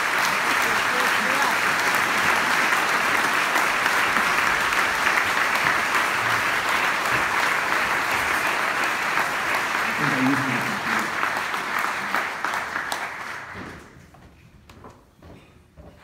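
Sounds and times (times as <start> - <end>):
audience applause: 0.0 - 14.0.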